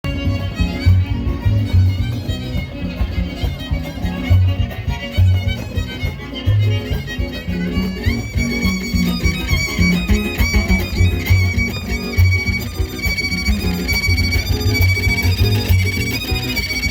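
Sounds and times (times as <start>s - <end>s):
strummed string rhythm: 0.0s - 16.9s
violin playing lively melody: 0.0s - 16.9s.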